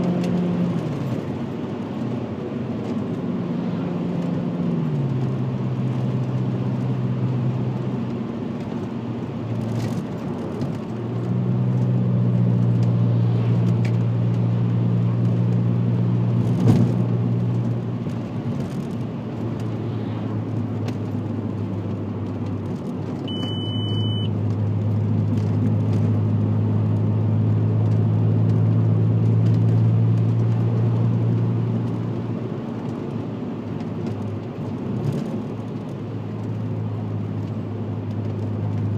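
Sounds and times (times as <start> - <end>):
tyre and road noise: 0.0 - 38.9.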